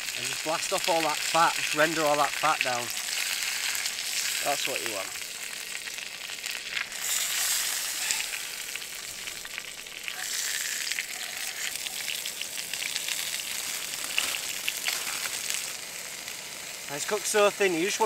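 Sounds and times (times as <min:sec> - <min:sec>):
fat sizzling in a frying pan: 0:00.0 - 0:18.0.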